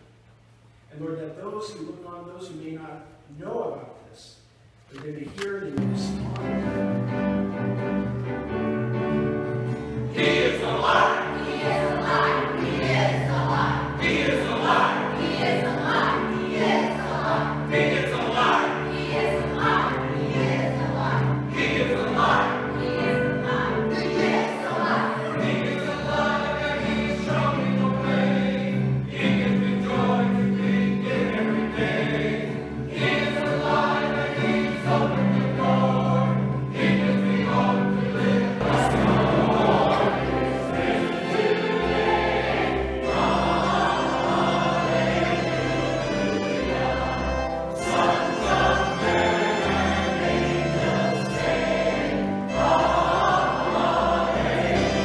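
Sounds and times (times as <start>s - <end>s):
instrumental accompaniment: 5.7s - 55.0s
choir singing: 9.1s - 55.0s.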